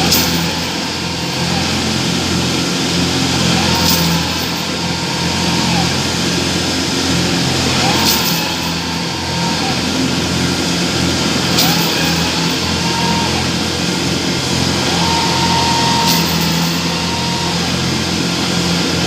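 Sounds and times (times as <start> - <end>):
diesel engines under heavy load: 0.0 - 19.0
high whine: 0.0 - 19.0.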